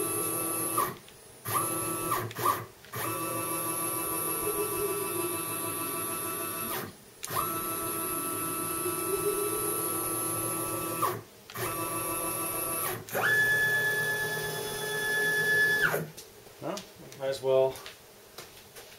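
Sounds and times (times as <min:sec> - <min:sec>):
stepper motor whine: 0:00.0 - 0:16.1.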